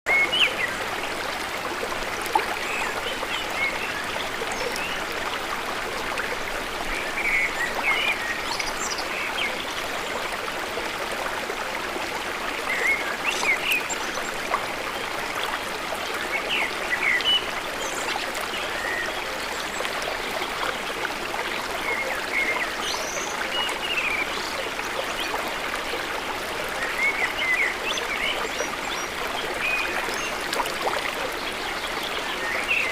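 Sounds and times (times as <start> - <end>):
running water rushing: 0.1 - 32.9.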